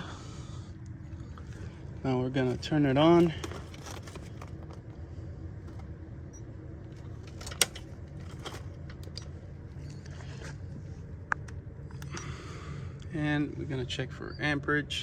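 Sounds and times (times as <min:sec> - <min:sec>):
air handler humming: 0:00.0 - 0:15.0.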